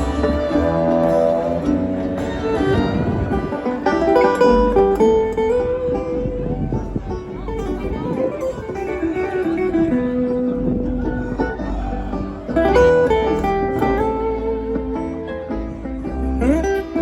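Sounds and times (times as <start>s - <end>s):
banjo: 0.0s - 17.0s
picked guitar: 0.0s - 17.0s
sliding fiddle notes: 0.0s - 17.0s.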